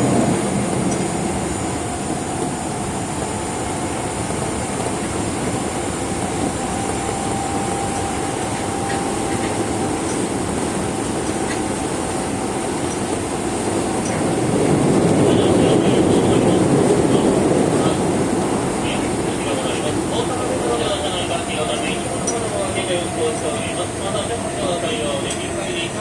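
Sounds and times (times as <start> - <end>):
subway train rail noise: 0.0 - 26.0.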